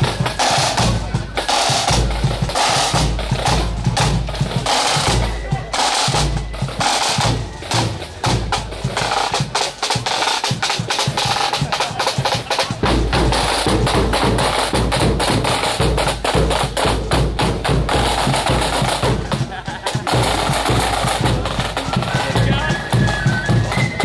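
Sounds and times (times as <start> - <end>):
heavy bass drum beats: 0.0 - 24.0
snare drums playing rolls: 0.0 - 24.0.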